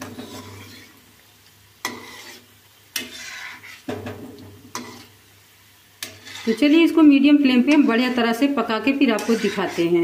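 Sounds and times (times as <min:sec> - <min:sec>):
spatula scraping iron wok: 0:00.0 - 0:01.0, 0:01.8 - 0:05.2, 0:06.0 - 0:10.0
oil sizzling: 0:00.0 - 0:10.0.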